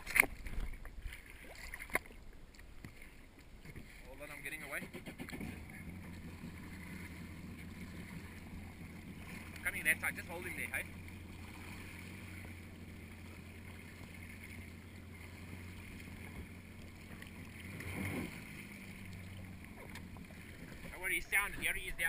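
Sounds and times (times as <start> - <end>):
water noise: 0.0 - 22.0
jet ski engine idling: 2.3 - 22.0.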